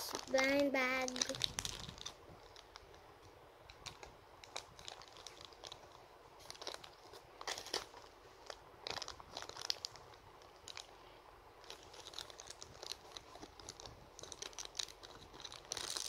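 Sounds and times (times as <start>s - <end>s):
plastic wrapper crinkling: 0.0s - 11.0s, 11.6s - 16.0s.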